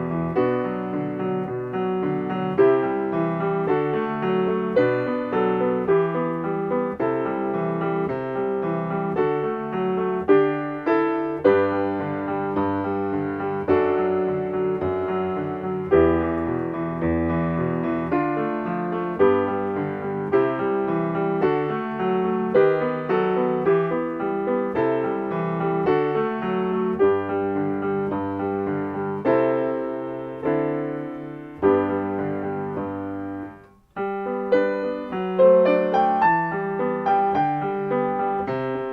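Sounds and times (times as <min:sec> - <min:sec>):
solo piano chords: 0:00.0 - 0:38.9.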